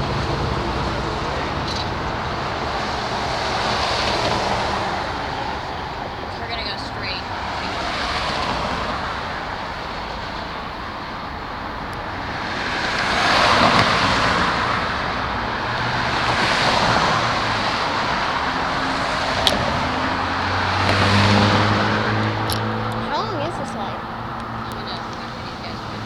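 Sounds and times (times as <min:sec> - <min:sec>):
cars passing: 0:00.0 - 0:26.0
low engine hum: 0:00.0 - 0:26.0.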